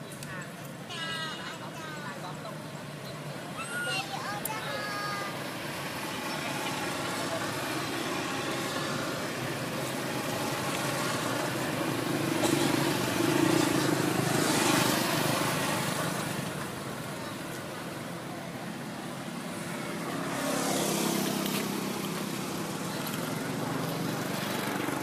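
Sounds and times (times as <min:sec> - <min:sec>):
outdoor background noise: 0:00.0 - 0:25.0
vehicle engine running: 0:04.6 - 0:25.0.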